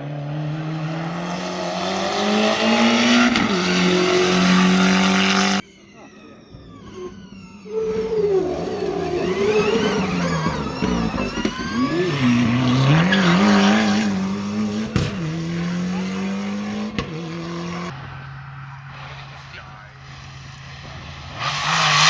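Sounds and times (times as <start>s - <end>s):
rally car engine revving: 0.0s - 5.7s, 7.7s - 22.0s.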